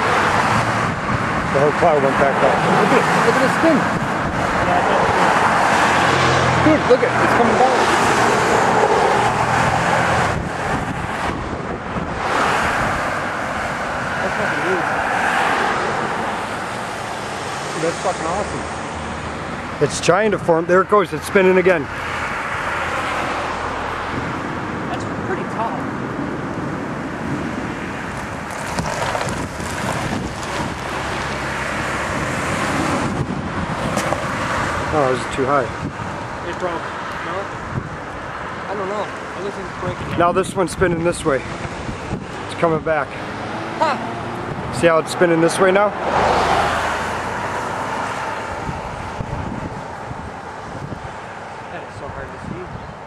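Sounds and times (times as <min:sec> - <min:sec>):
strong wind buffeting microphone: 0:00.0 - 0:53.0.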